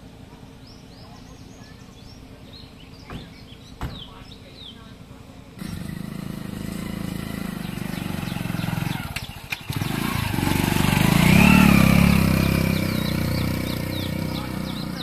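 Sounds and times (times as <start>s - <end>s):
motorcycle engine passing by: 0.0s - 15.0s.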